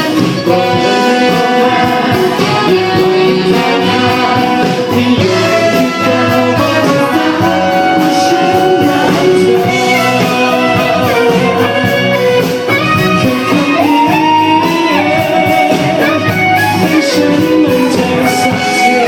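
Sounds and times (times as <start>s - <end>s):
instrumental pop band: 0.0s - 19.0s.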